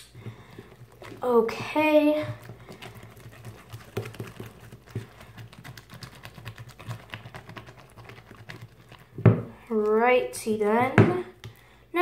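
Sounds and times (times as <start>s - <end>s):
slime clicking while stirred: 0.0s - 9.9s.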